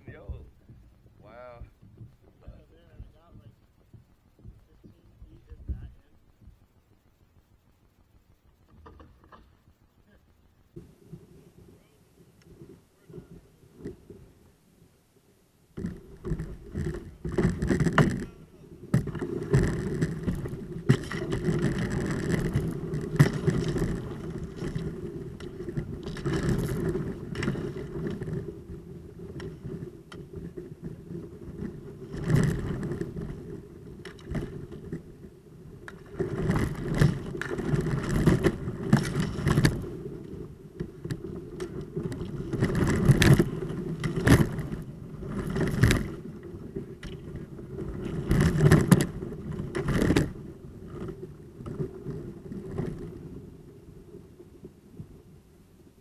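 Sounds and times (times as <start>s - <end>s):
kayak hull scraping ice: 0.0s - 6.5s, 10.8s - 14.6s, 15.7s - 56.0s.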